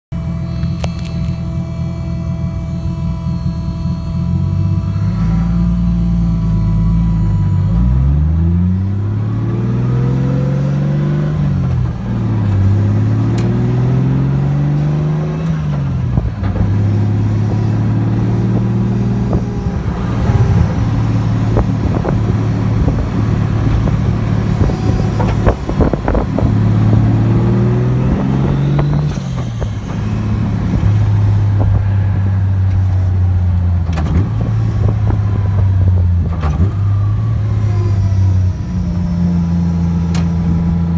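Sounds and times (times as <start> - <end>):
car engine revving: 0.2 - 40.9.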